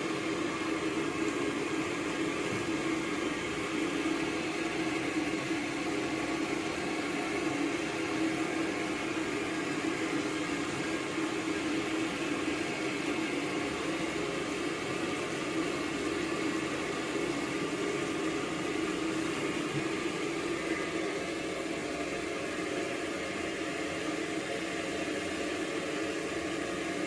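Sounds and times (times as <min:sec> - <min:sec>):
chicken deep-frying in hot oil: 0:00.0 - 0:27.0.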